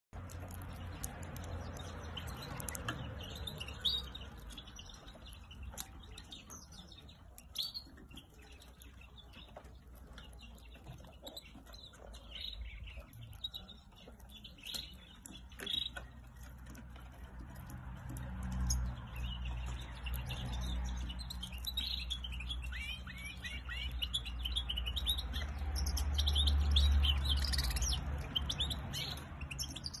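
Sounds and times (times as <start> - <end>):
bird twittering and chirping: 0.0 - 30.0.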